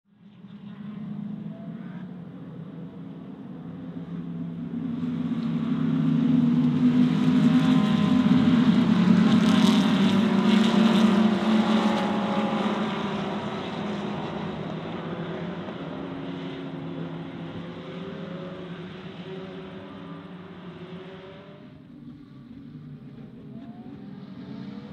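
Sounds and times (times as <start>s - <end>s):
race car engines passing: 0.2s - 24.9s.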